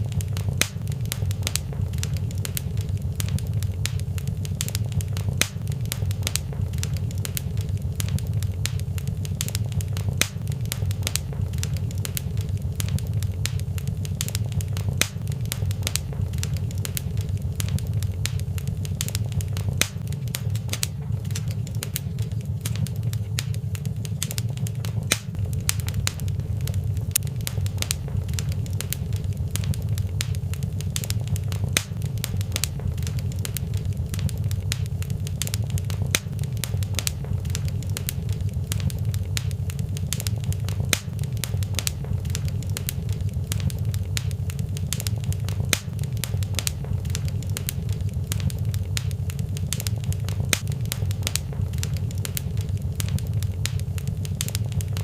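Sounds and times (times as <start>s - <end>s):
low rumble of fire: 0.0s - 55.0s
wood fire crackling and popping: 0.0s - 55.0s.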